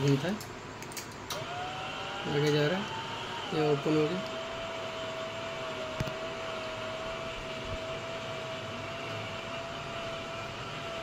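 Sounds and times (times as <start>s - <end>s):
electric motor whining: 1.3s - 11.0s.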